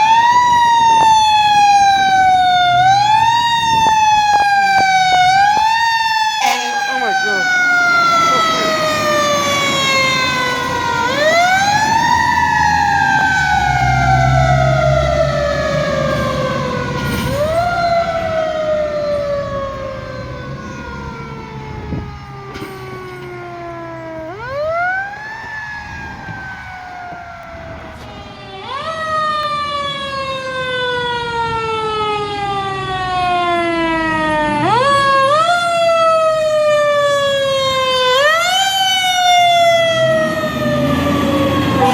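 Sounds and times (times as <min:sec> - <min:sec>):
deep truck rumble: 0:00.0 - 0:35.2
fire truck siren wailing: 0:00.0 - 0:41.9.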